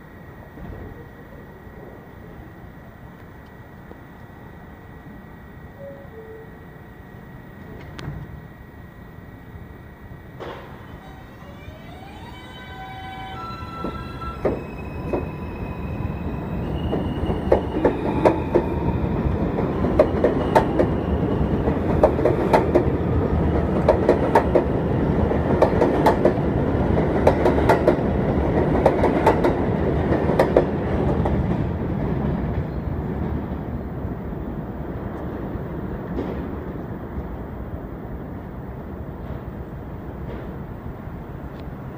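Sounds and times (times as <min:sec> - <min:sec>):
electric train propulsion whine: 0:00.0 - 0:41.9.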